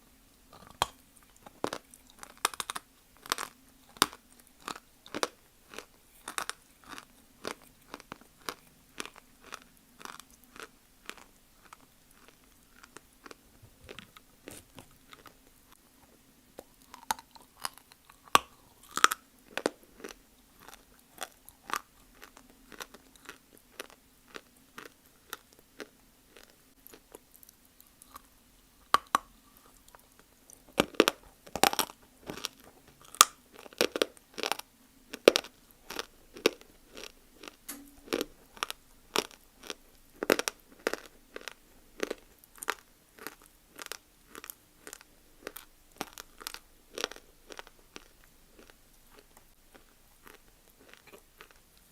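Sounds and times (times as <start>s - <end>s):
clay being chewed with crunches: 0.5s - 51.9s.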